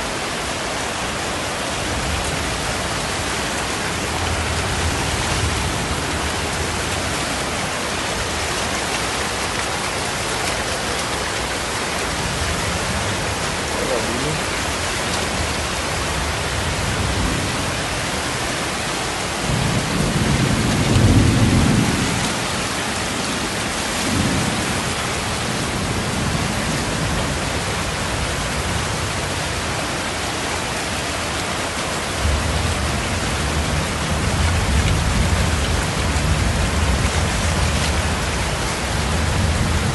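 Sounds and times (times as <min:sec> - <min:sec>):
heavy rain hissing: 0:00.0 - 0:39.9
rushing floodwater: 0:00.0 - 0:39.9.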